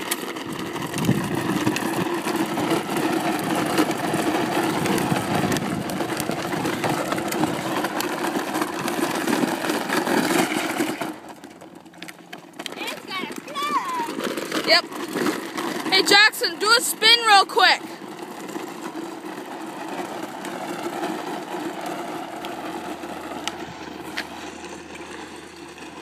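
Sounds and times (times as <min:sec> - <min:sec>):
trike wheels rolling over asphalt: 0:00.0 - 0:26.0.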